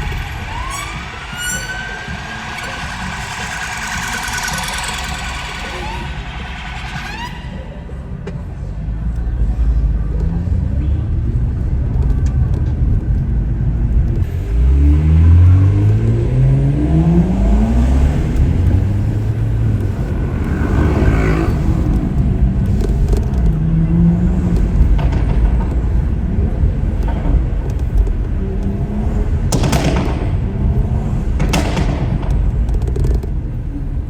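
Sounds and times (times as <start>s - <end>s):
turbocharged car engine accelerating: 0.0s - 34.0s.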